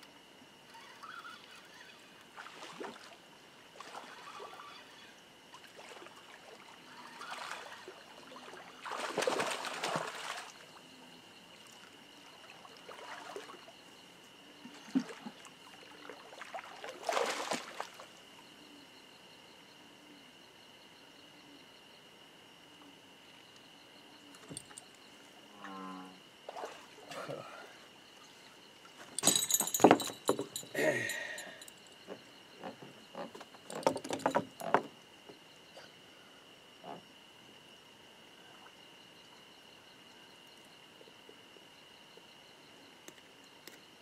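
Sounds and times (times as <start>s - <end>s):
high-pitched insect trill: 0.1s - 3.2s, 3.8s - 44.0s.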